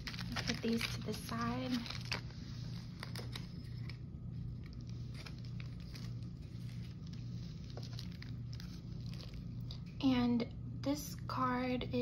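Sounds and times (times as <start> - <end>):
paper and cards being handled: 0.0 - 9.9
steady low hum: 0.0 - 12.0.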